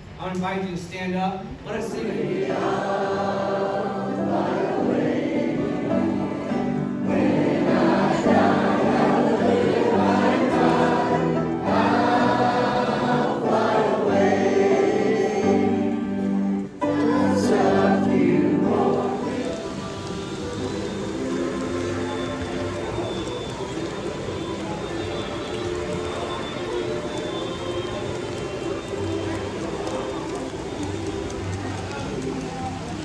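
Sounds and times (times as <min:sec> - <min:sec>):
group singing a hymn: 0:01.8 - 0:31.1.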